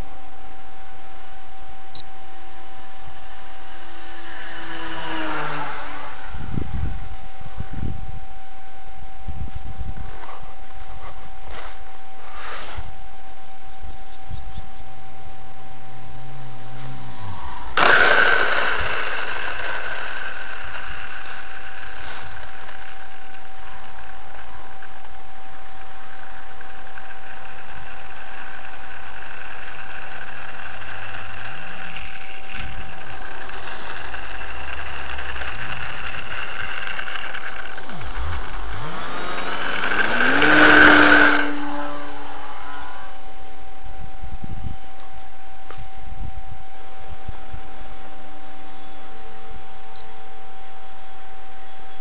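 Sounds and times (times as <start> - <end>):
electric motor and propeller whine: 0.0 - 52.0.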